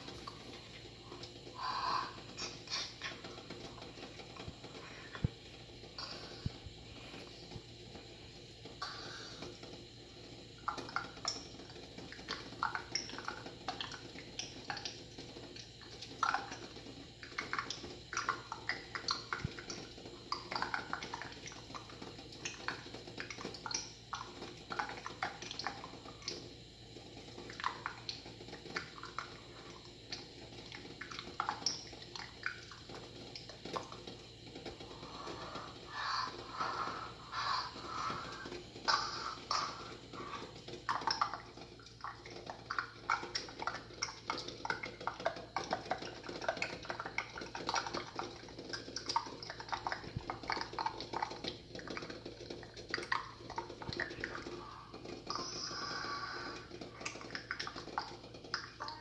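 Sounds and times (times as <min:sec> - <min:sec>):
low steady hum: 0:00.0 - 0:59.0
water bubbling in a pot: 0:00.0 - 0:59.0.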